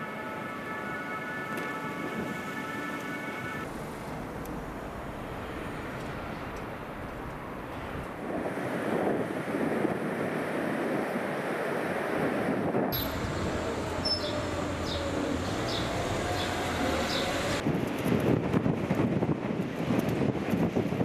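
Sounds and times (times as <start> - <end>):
wind buffeting microphone: 3.6 - 21.0.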